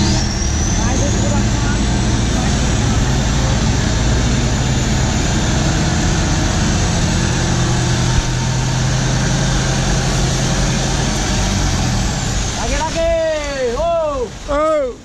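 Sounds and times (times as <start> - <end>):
truck diesel engine drone: 0.0 - 14.6
road and wind noise: 0.0 - 15.0.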